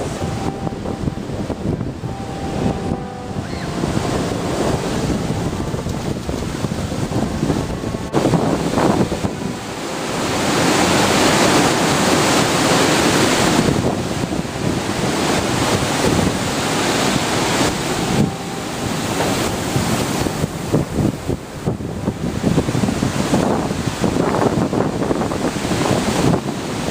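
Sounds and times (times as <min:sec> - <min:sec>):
ocean surf: 0:00.0 - 0:26.9
wind buffeting microphone: 0:00.0 - 0:26.9.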